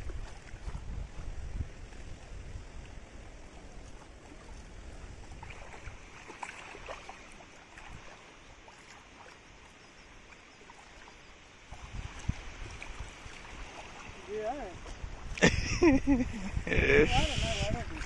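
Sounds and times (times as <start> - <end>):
wind rumble on microphone: 0.0 - 8.2, 11.7 - 18.0
water splashing and lapping: 0.0 - 18.0.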